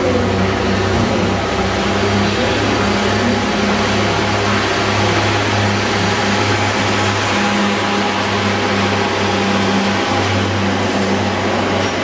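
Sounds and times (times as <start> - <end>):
train diesel engine drone: 0.0 - 12.0.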